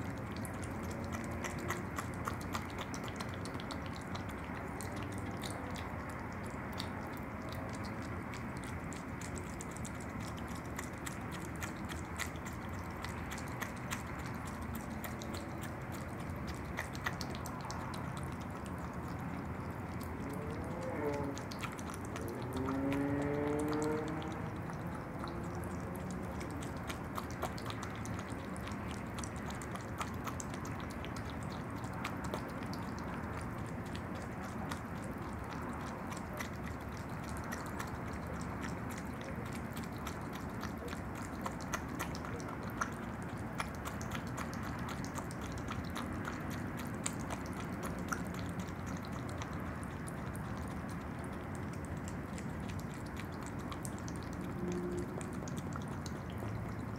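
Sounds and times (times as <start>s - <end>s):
animal eating with wet mouth clicks: 0.0s - 56.9s.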